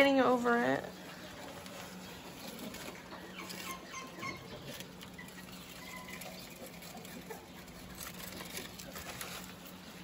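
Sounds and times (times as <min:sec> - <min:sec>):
rabbits chewing leaves: 0:00.0 - 0:10.0
dried leaves crumbling: 0:01.2 - 0:10.0.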